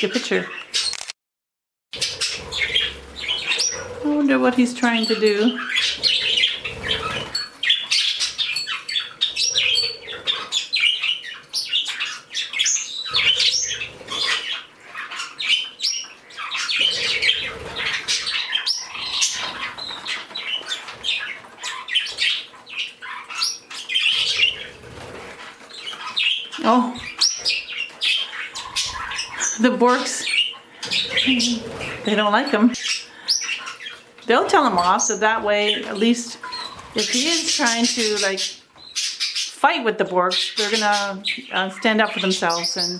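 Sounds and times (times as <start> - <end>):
pet birds chirping: 0.0 - 1.1, 1.9 - 42.9.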